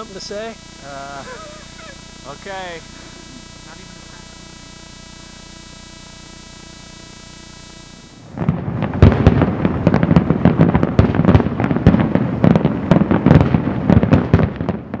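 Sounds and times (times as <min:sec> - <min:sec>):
fireworks bangs and crackles: 0:00.0 - 0:06.2, 0:08.0 - 0:15.0.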